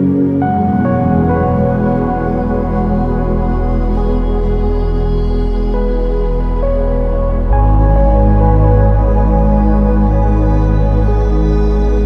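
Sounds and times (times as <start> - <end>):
ambient music with low drone: 0.0 - 12.0.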